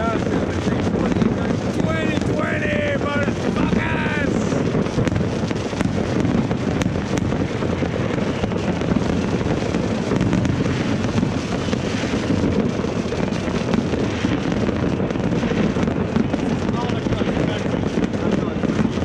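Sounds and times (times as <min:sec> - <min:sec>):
distant fireworks rumble: 0:00.0 - 0:19.0.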